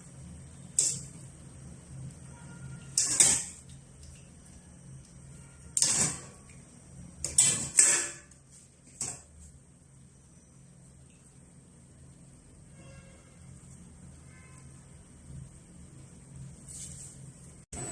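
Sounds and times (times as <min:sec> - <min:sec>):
faint electrical hum: 0:00.0 - 0:17.9.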